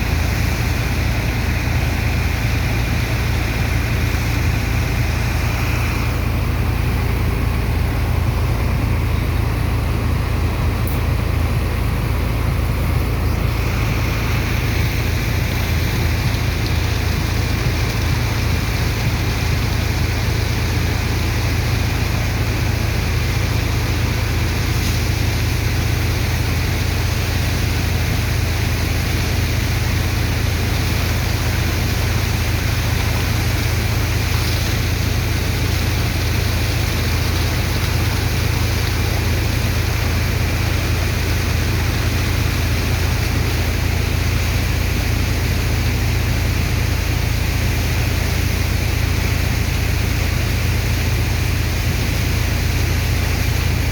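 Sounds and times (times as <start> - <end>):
pump engine drone: 0.0 - 53.9
rushing water and sand: 0.0 - 53.9.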